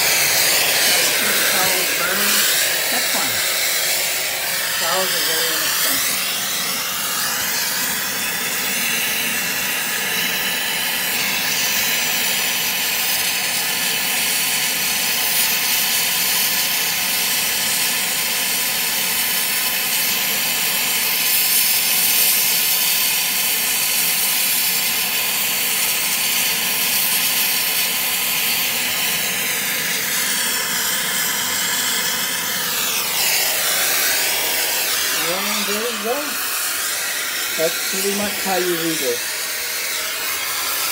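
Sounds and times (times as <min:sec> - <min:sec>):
torch flame hissing: 0:00.0 - 0:40.9.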